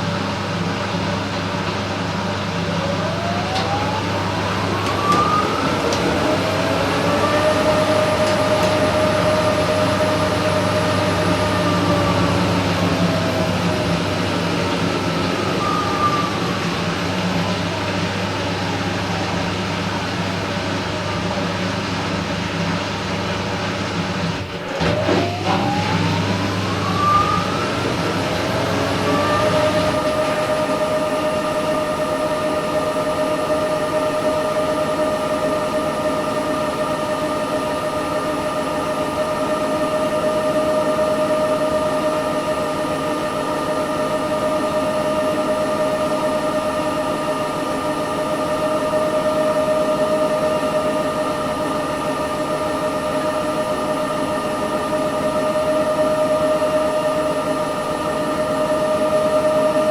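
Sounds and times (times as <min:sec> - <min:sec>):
washing machine motor whine: 0:00.0 - 0:59.9.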